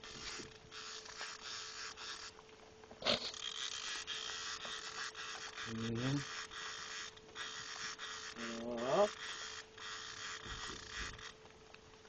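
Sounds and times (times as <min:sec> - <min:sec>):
fishing reel rasping: 0:00.0 - 0:02.4, 0:03.1 - 0:11.4
steady hum: 0:00.0 - 0:12.0.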